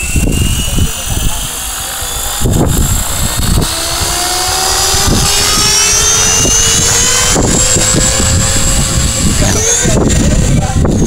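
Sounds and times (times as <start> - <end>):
helicopter motor and rotor whine: 0.0 - 11.0
low rumble of rotor wash: 0.0 - 11.0.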